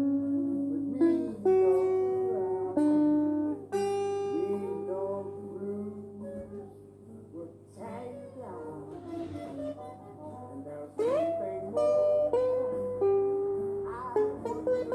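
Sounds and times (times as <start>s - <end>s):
electric guitar single notes: 0.0s - 14.9s.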